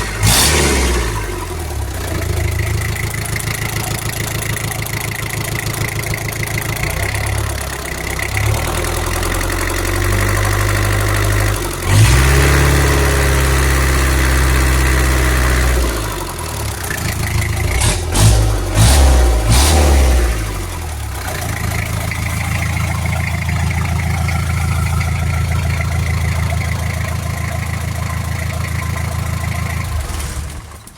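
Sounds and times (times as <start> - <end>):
diesel engine idling and revving: 0.0 - 30.9.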